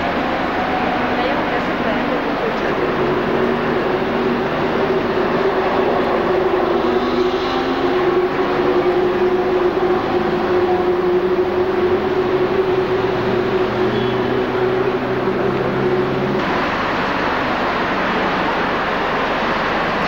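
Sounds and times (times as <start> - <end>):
rushing noise: 0.0 - 20.0
vehicle drone with held tones: 0.0 - 20.0.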